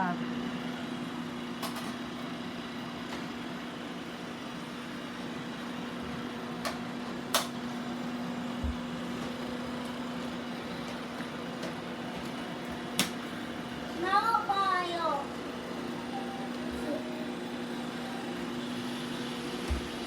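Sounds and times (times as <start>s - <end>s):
robot vacuum cleaner humming: 0.0s - 20.0s.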